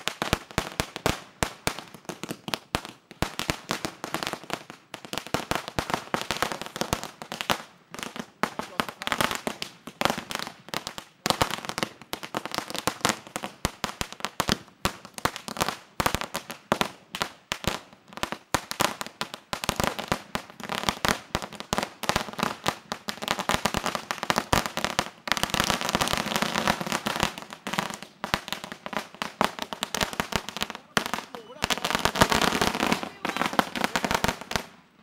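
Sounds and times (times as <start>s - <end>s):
firecrackers banging and crackling: 0.0s - 35.0s.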